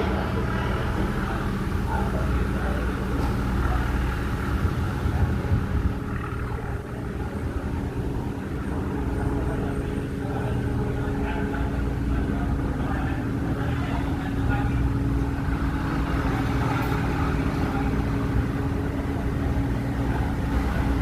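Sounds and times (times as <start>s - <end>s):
ship engines rumbling: 0.0s - 21.0s.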